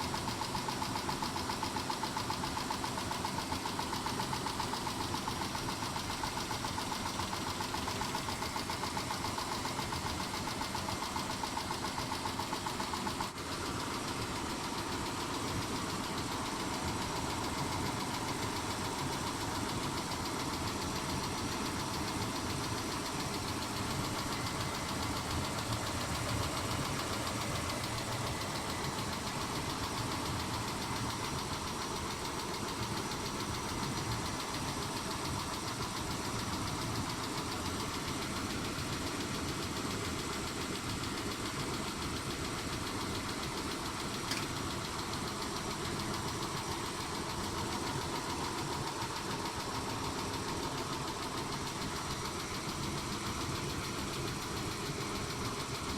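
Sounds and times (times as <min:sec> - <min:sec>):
engine running with fast ticking: 0:00.0 - 0:55.9.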